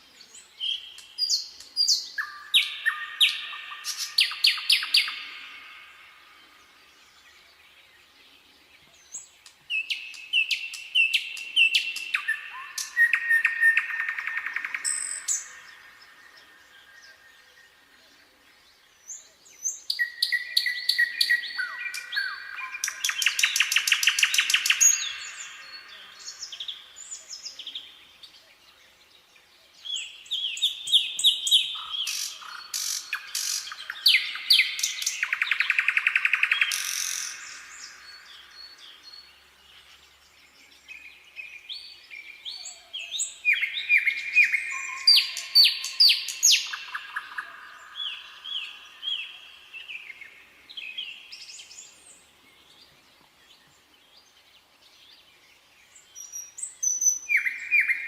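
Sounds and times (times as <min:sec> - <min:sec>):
nightingale singing: 0:00.0 - 0:58.0.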